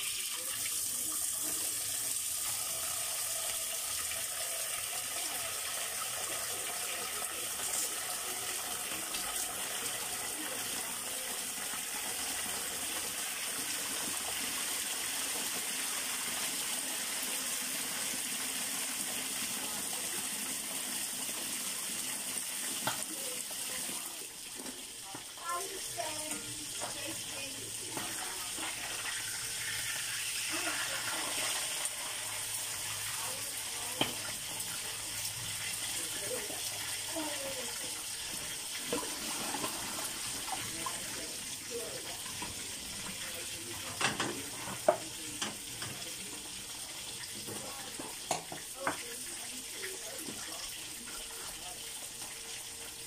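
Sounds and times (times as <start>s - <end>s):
water running from a tap: 0.0s - 53.0s.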